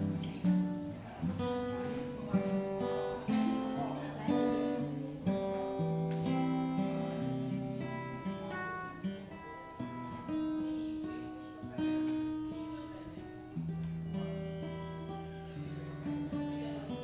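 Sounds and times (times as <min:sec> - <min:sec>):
acoustic guitar plucked chords: 0:00.0 - 0:17.0.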